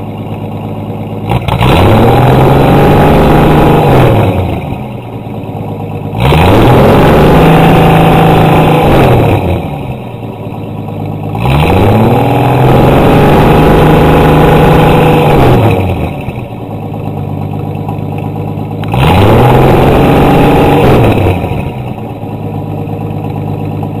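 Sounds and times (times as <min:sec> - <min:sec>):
car engine revving and idling: 0:00.0 - 0:24.0.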